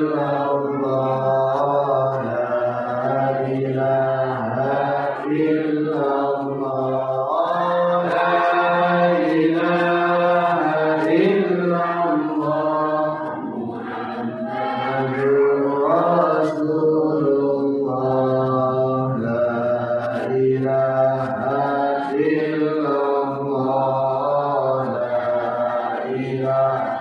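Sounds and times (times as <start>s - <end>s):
person chanting devotional phrase: 0.0s - 27.0s.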